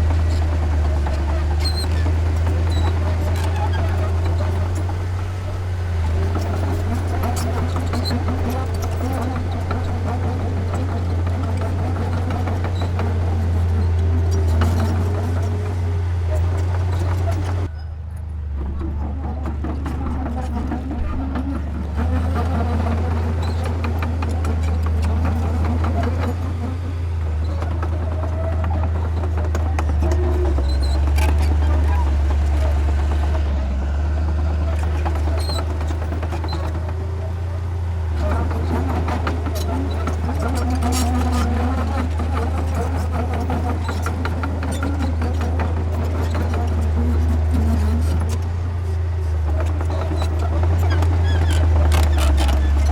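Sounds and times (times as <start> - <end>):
short high squeaks: 0.0 - 18.2, 18.8 - 52.9
diesel engine droning: 0.0 - 52.9.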